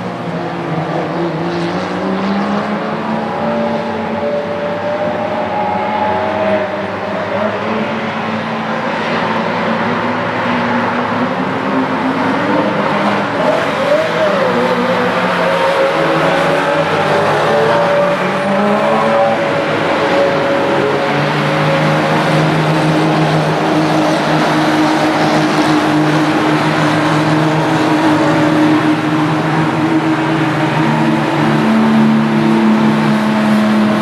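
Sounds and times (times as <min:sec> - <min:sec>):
sports car engines revving: 0:00.0 - 0:34.0.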